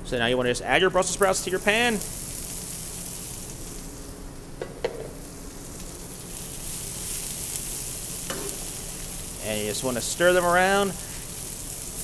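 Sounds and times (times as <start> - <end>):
vegetables sizzling in a pan: 0.5 - 12.0.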